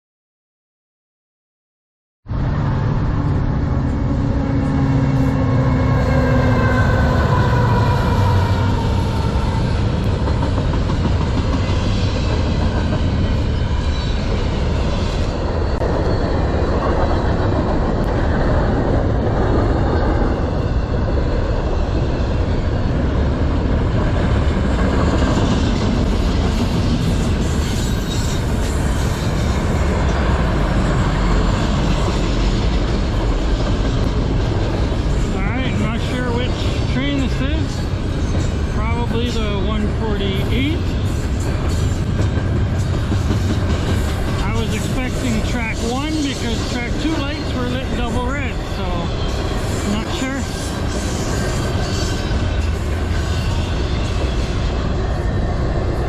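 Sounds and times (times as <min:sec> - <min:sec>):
freight train cars rumbling: 0:02.3 - 0:56.0.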